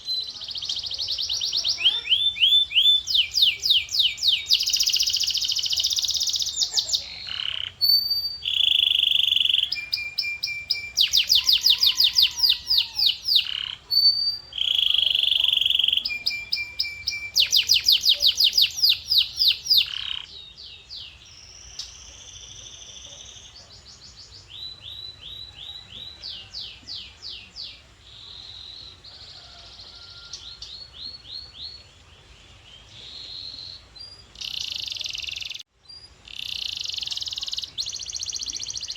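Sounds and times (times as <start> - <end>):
canary singing: 0.0 - 31.9, 32.8 - 38.9.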